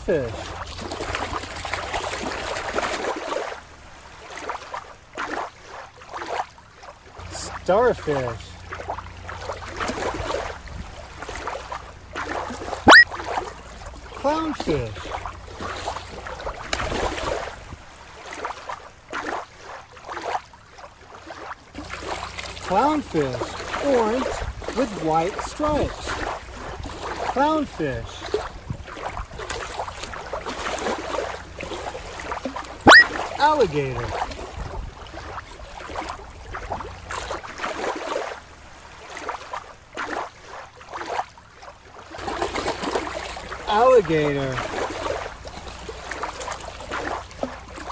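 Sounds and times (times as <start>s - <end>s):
gurgling water: 0.0s - 47.9s
water lapping and splashing: 0.0s - 47.9s.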